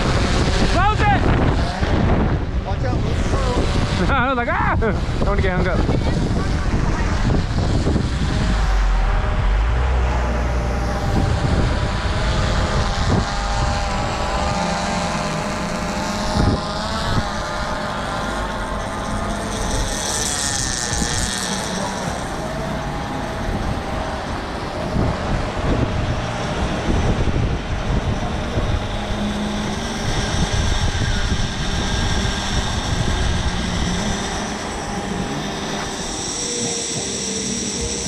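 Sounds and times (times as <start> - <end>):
drone propellers whining: 0.0 - 38.0
heavy low rumble: 0.0 - 38.0.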